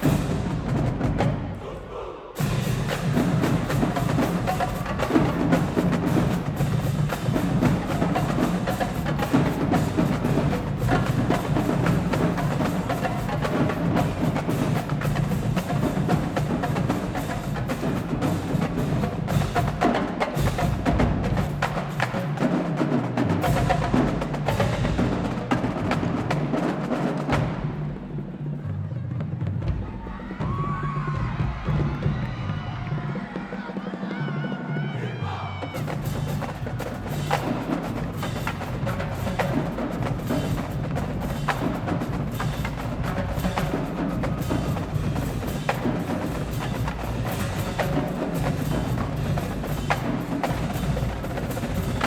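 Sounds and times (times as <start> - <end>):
marching drumline playing: 0.0 - 52.0.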